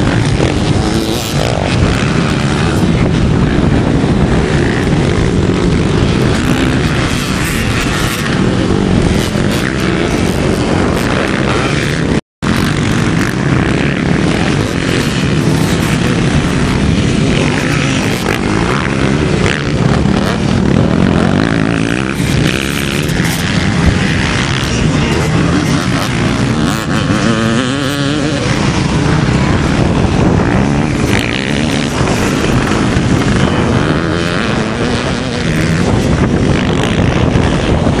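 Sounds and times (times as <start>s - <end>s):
motocross motorcycles revving: 0.0s - 38.0s.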